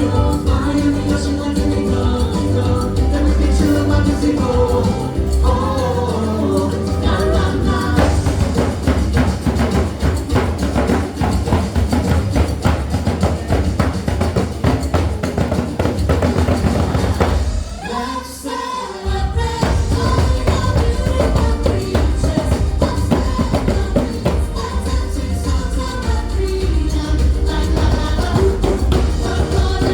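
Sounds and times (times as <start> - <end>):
person singing: 0.0 - 8.9, 12.0 - 29.9
upbeat pop music: 0.0 - 29.9.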